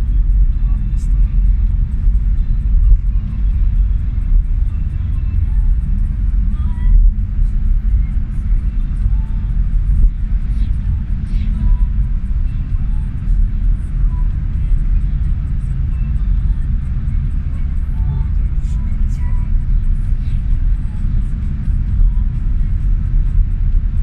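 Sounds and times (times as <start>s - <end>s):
heavy truck traffic rumbling: 0.0s - 24.0s.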